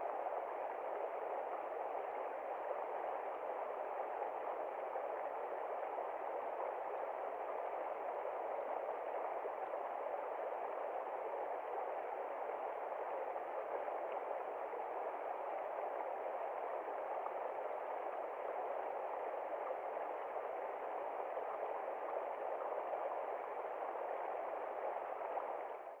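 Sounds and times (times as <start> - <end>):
creek flowing over rocks: 0.1 - 26.0.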